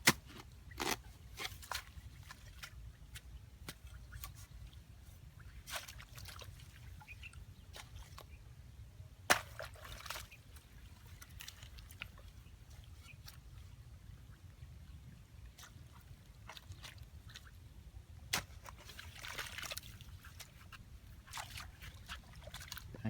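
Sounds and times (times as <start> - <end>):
water sloshing and splashing: 0.1 - 8.4, 9.3 - 23.0.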